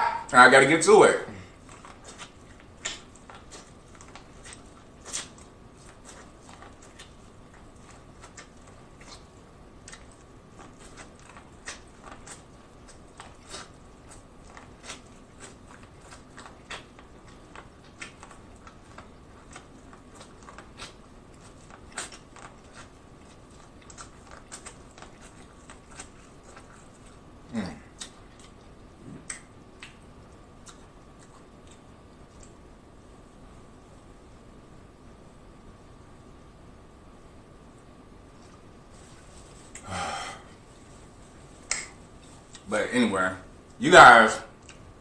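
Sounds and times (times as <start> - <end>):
chewing corn crunching: 1.3 - 32.7, 38.3 - 39.9, 40.5 - 42.8, 43.6 - 45.0.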